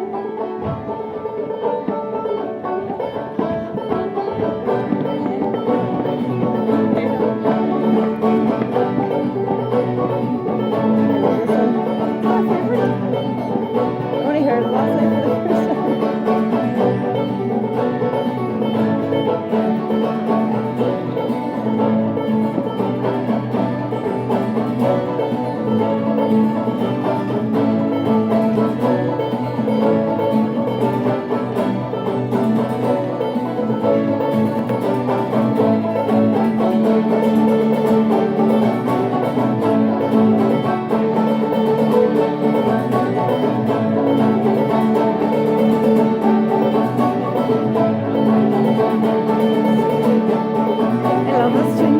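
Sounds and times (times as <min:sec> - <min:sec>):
banjo: 0:00.0 - 0:51.9
mandolin: 0:00.0 - 0:51.9.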